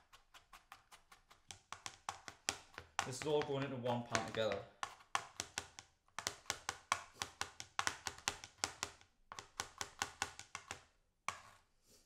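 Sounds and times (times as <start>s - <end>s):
knife chopping on plastic board: 0.0s - 11.6s.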